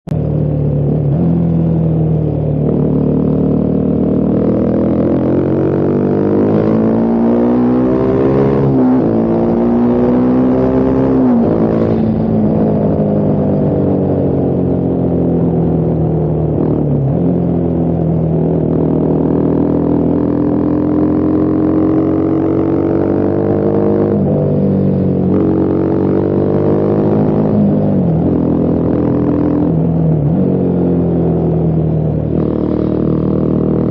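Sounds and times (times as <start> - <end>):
motorcycle engine riding: 0.1 - 33.9.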